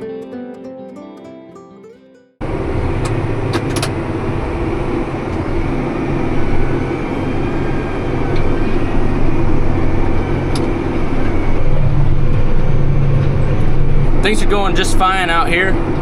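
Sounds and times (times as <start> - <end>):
baler machinery noise: 2.4 - 16.0
tractor engine droning: 2.4 - 16.0.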